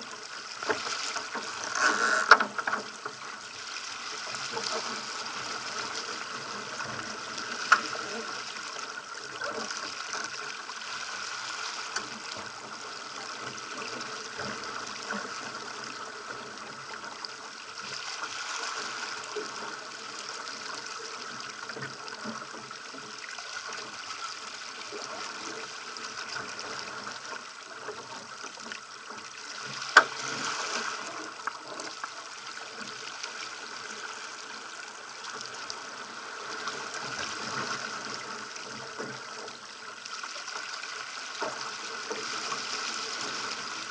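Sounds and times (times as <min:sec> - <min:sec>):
water splashing along hull: 0:00.0 - 0:43.9.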